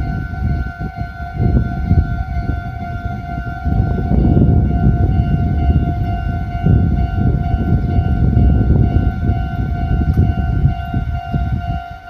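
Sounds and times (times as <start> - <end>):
heavy low rumble: 0.0 - 12.0
level-crossing warning bell: 0.0 - 12.0.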